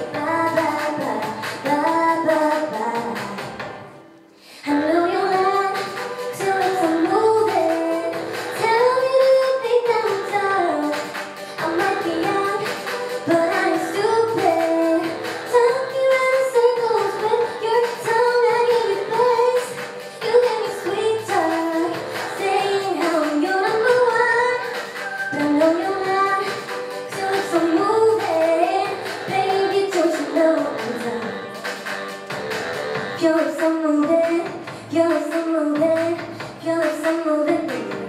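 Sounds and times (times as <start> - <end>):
woman singing into microphone: 0.0 - 3.6, 4.4 - 31.7, 33.0 - 38.0
accompaniment with steady beat: 5.1 - 38.0.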